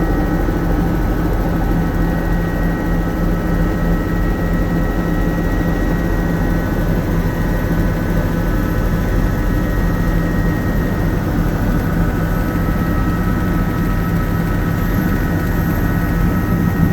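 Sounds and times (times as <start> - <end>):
helicopter in flight: 0.0 - 16.9.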